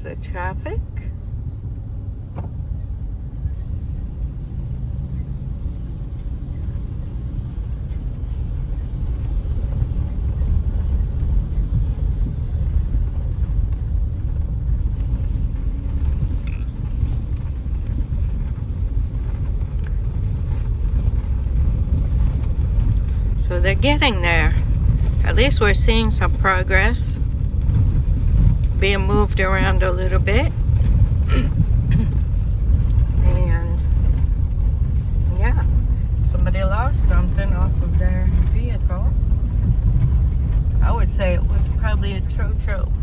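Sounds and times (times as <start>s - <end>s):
car interior road rumble: 0.0s - 43.0s.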